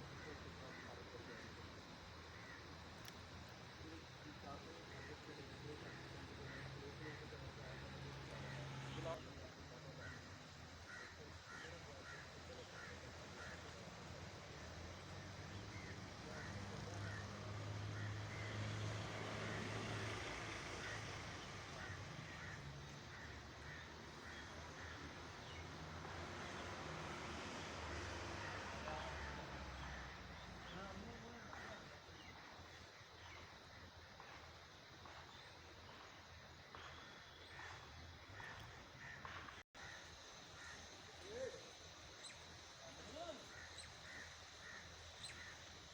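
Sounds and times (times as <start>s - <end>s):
outdoor background noise: 0.0s - 45.9s.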